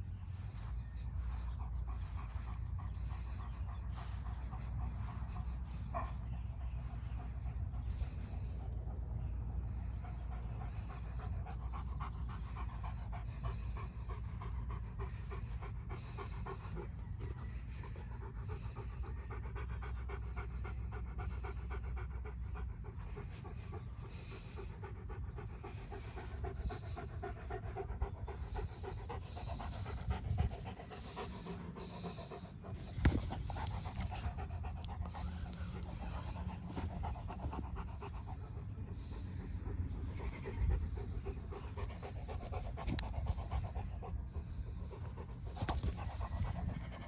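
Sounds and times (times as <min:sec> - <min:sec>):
dog panting: 0:00.0 - 0:47.0.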